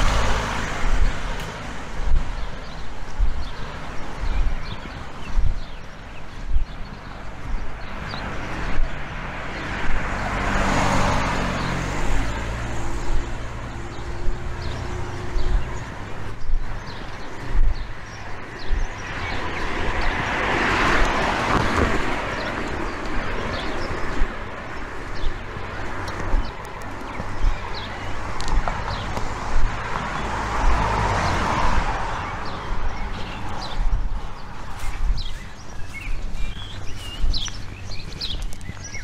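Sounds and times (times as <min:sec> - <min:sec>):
cars passing: 0:00.0 - 0:39.0
low engine hum: 0:00.0 - 0:39.0.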